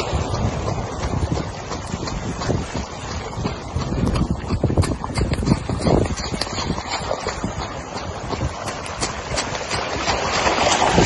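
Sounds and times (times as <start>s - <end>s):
floodwater rushing across road: 0.0s - 11.0s
wind buffeting microphone: 0.0s - 11.0s.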